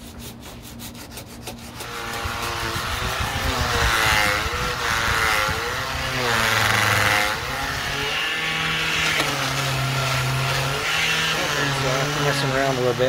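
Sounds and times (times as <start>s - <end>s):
hand sanding on body filler: 0.0s - 13.0s
disc sander grinding: 1.6s - 13.0s.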